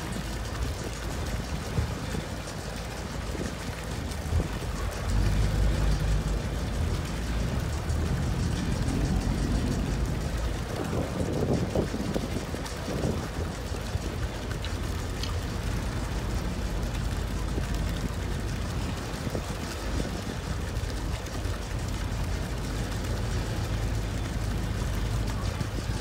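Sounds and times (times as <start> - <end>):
boat engine rumble: 0.0 - 26.0
water noise: 0.0 - 26.0
wind: 0.0 - 26.0.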